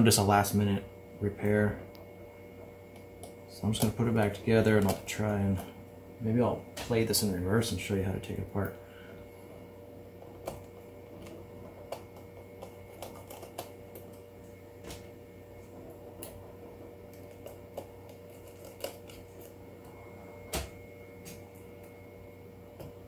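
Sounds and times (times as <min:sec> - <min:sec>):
steady faint hum: 0:00.0 - 0:23.0.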